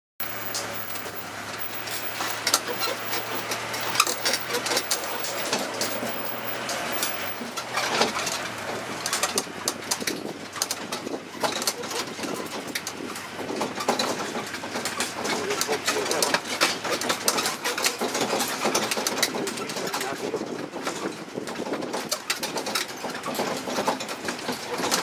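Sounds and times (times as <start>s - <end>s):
carriage clicks and rattles: 0.2s - 25.0s.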